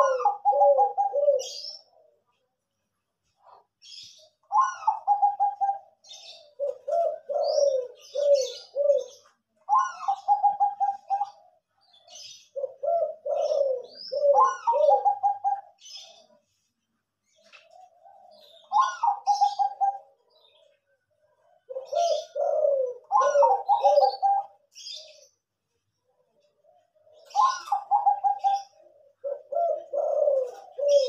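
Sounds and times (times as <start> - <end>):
slow deep dove coos: 0.0 - 2.4, 3.5 - 25.5, 26.3 - 31.0
small birds chirping: 0.0 - 31.0.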